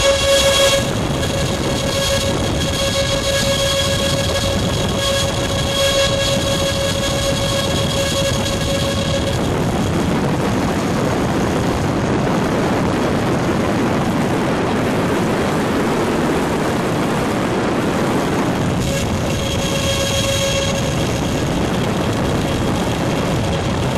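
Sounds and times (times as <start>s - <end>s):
electric ducted fans rushing air: 0.0s - 23.9s.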